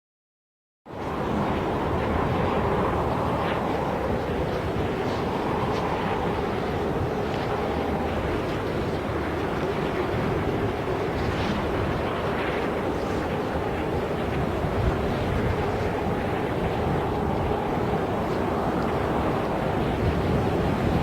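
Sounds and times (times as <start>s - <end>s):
rushing wind: 0.9s - 21.0s.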